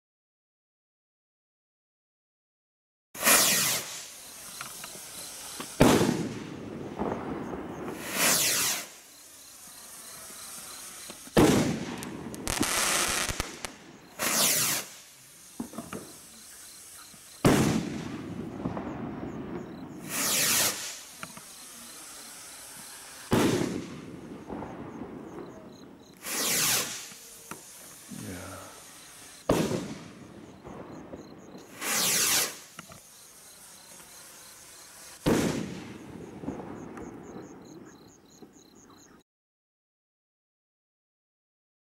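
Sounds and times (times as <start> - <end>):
firework bursting bang: 3.2 - 37.7
firework rocket whoosh: 3.2 - 37.7.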